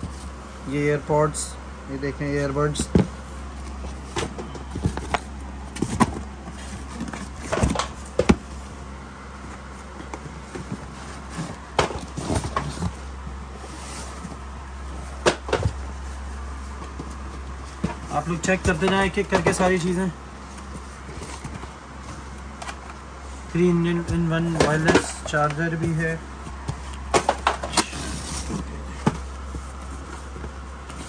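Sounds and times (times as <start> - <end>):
steady low hum: 0.0 - 31.0
cardboard boxes rustling and knocking: 2.7 - 8.7, 9.4 - 23.0, 23.7 - 31.0.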